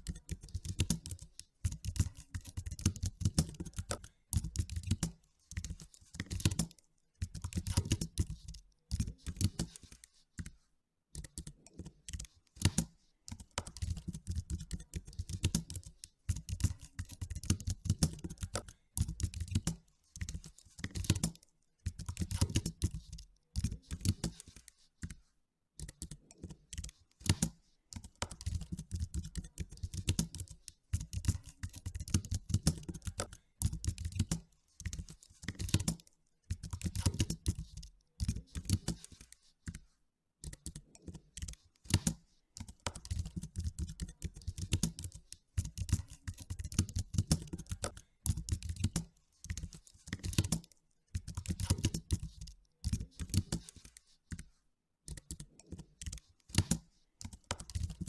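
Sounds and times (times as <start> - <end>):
keyboard typing: 0.0 - 25.2, 25.8 - 58.0.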